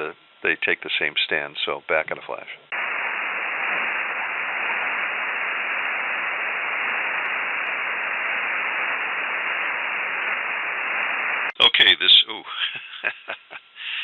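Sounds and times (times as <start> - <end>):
radio receiver static hiss: 2.7 - 14.0.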